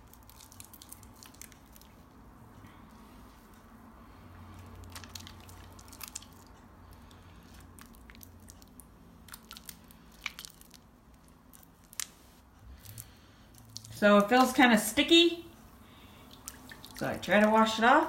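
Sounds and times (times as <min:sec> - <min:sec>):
wet squishing and crackling: 0:00.0 - 0:14.9, 0:15.7 - 0:18.0.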